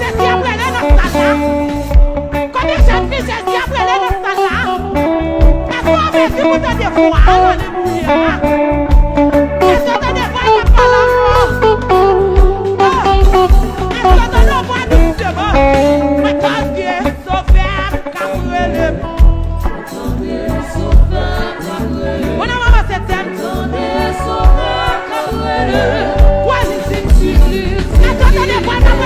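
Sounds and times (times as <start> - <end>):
gospel singing with band: 0.0 - 29.0.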